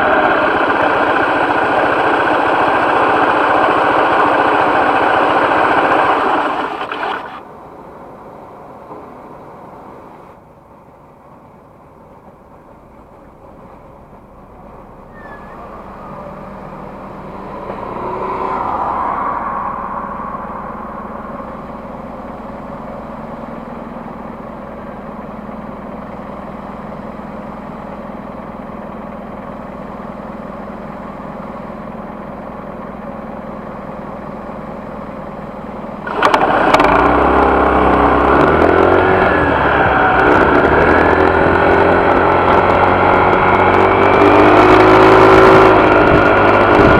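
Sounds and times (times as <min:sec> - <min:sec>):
scooter engine running: 0:00.0 - 0:07.8, 0:11.5 - 0:46.9.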